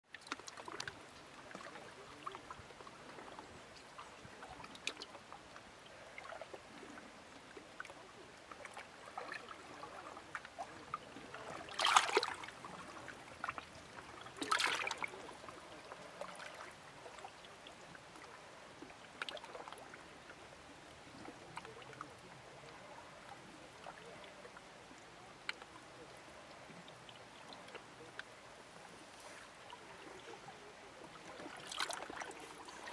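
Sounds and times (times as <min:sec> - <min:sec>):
water clicks and gurgles: 0:00.0 - 0:32.9
water lapping at shore: 0:00.0 - 0:32.9
water splashes: 0:00.0 - 0:32.9.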